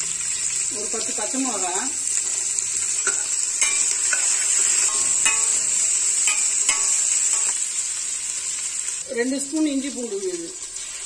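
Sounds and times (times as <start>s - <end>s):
onions sizzling in pot: 0.0s - 11.0s.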